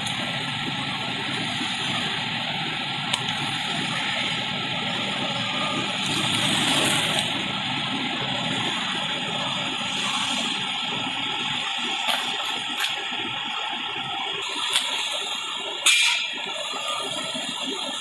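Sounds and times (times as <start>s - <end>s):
factory machinery running: 0.0s - 18.0s.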